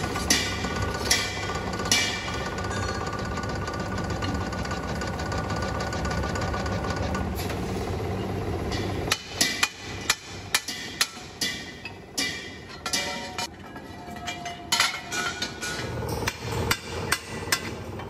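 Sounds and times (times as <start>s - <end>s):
metal-forming press running: 0.0s - 18.0s.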